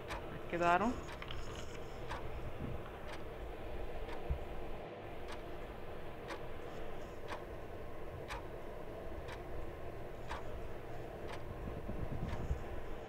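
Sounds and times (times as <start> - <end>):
clock ticking: 0.0 - 2.4, 3.0 - 4.6, 5.2 - 12.9
low background noise: 0.0 - 13.0.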